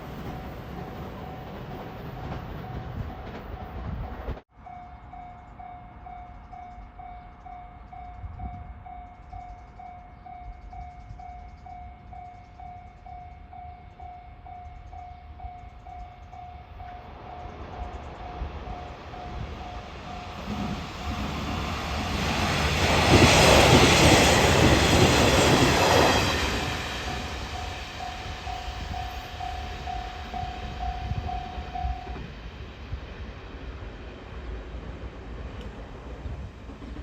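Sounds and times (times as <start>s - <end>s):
train rumble: 0.0s - 37.0s.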